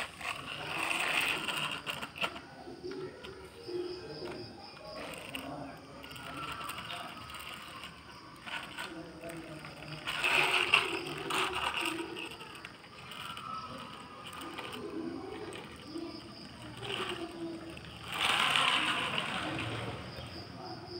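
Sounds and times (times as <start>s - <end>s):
toy truck wheels rattling on concrete: 0.0s - 20.9s.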